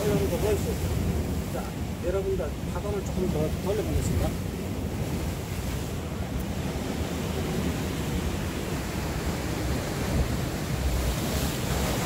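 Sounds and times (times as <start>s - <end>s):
sea surf breaking over rocks: 0.0s - 12.0s.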